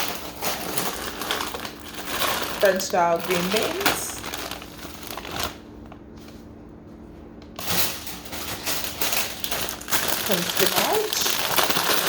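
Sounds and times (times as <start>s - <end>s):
plastic bags crinkling: 0.0s - 6.5s, 7.6s - 12.0s
low steady hum: 0.0s - 12.0s.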